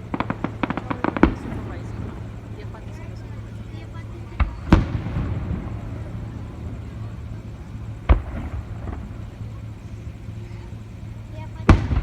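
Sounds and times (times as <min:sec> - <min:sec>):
fireworks booming: 0:00.0 - 0:12.0
low hum: 0:00.0 - 0:12.0
rumbling echo: 0:00.0 - 0:12.0.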